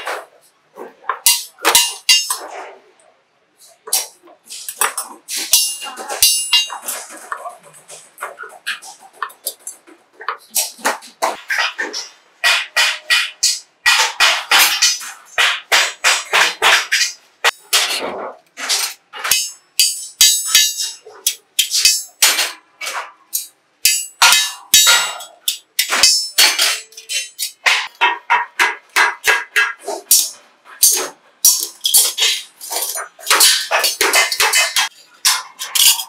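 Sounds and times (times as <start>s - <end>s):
hammer clanking on sheet metal: 1.1s - 2.6s, 4.0s - 9.0s, 10.3s - 36.0s.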